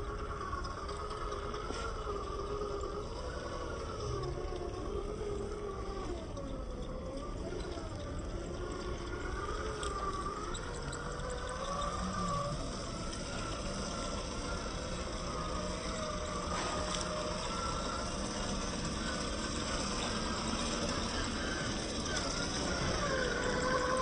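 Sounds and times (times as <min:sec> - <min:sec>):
electric motor and gearbox whining: 0:00.0 - 0:24.0.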